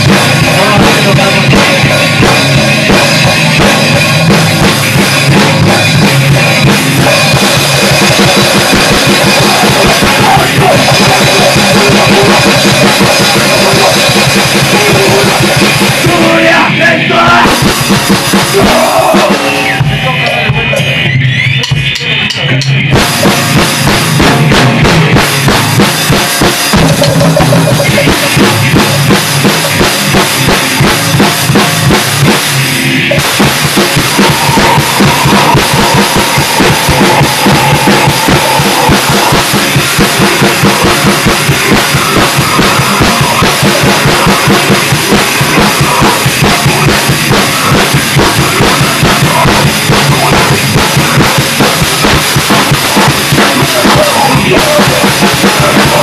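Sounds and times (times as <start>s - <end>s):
electric guitar: 0.0s - 56.0s
fast dense drum kit: 0.0s - 56.0s.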